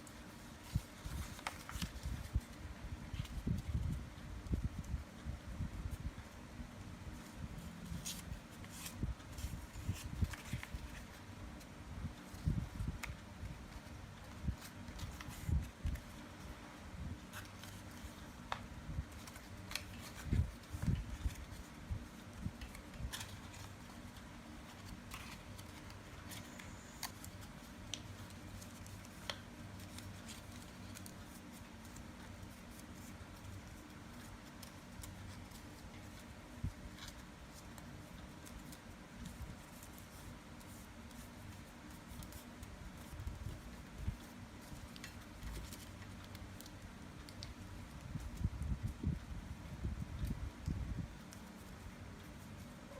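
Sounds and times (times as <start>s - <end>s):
paper crinkling: 0.0s - 5.2s, 7.1s - 49.0s
steady low hum: 0.0s - 52.9s.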